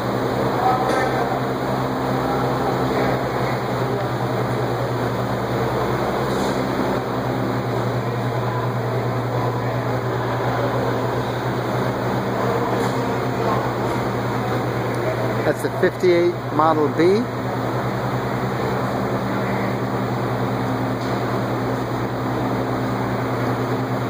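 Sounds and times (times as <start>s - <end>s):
hall background noise: 0.0s - 24.0s.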